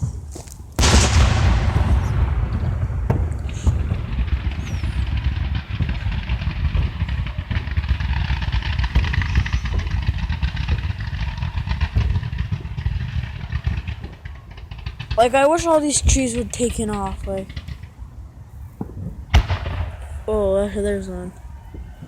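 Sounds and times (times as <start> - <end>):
fireworks bursts rumbling: 0.0 - 22.0
fireworks crackling: 0.8 - 18.1, 18.7 - 21.5.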